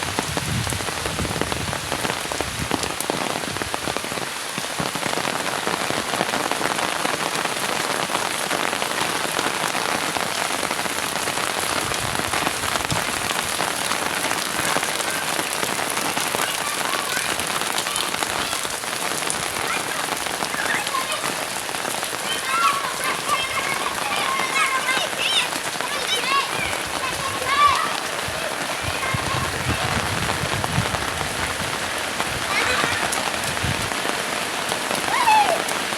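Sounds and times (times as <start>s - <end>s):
heavy rain pattering: 0.0s - 35.9s.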